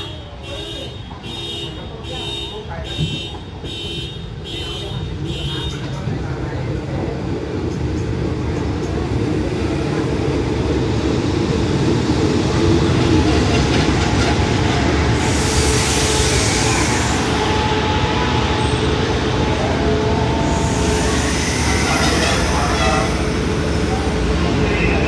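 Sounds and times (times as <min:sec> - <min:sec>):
train rumbling into station: 0:00.0 - 0:25.0.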